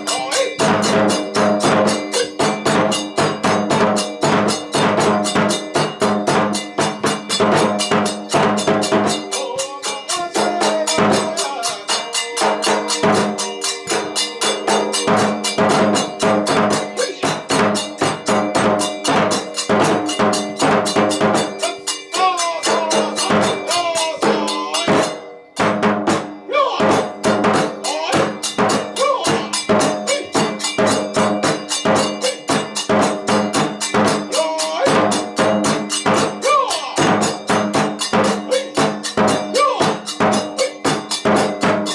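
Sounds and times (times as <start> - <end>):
drums in rapid rhythm: 0.0 - 41.9
hand cymbals clashing: 0.0 - 41.9.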